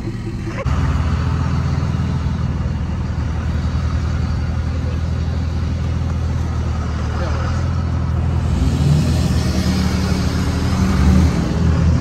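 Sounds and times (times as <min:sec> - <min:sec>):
truck engine rumbling past: 0:00.0 - 0:12.0.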